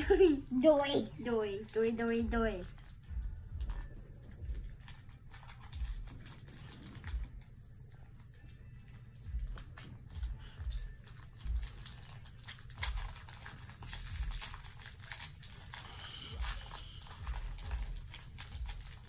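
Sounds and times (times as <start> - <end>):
wrappers crinkling: 0.5 - 19.0
cards rustling: 2.6 - 19.0.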